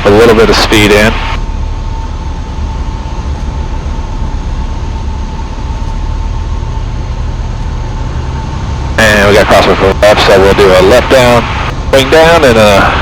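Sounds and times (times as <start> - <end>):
aircraft engine and propeller droning: 0.0 - 13.0.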